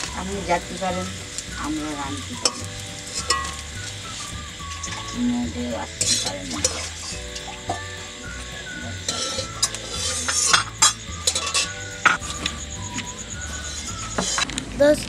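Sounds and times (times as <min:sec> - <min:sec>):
metal spatula scraping a pan: 0:00.0 - 0:05.2, 0:05.9 - 0:14.6
oil sizzling in a wok: 0:00.0 - 0:15.0.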